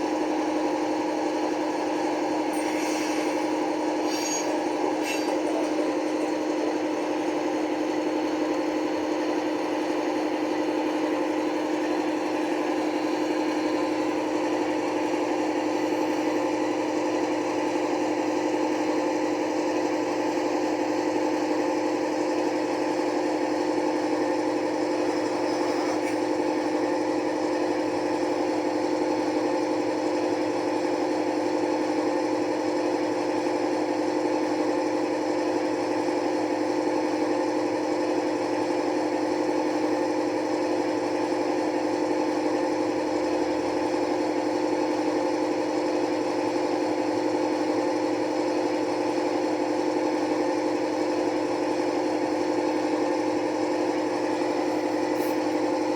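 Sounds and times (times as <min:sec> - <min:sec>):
model locomotive diesel engine drone: 0:00.0 - 0:55.9.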